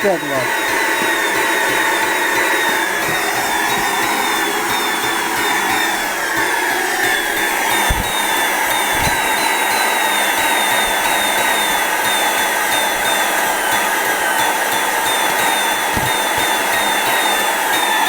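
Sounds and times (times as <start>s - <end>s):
vacuum cleaner motor running: 0.0s - 18.0s.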